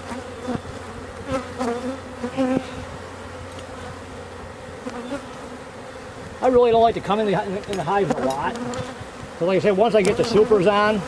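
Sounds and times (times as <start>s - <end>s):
bees buzzing: 0.0s - 11.0s
bees flying past: 0.0s - 11.0s.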